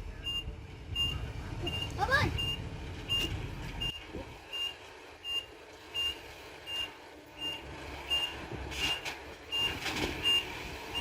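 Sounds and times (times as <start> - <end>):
diesel engine running: 0.0 - 11.0
reversing alarm beeping: 0.2 - 11.0.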